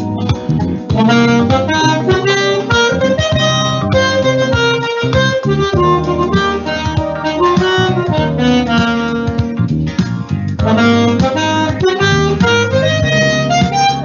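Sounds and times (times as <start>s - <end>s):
lower accompaniment: 0.0s - 14.0s
saxophone melody: 0.0s - 14.0s.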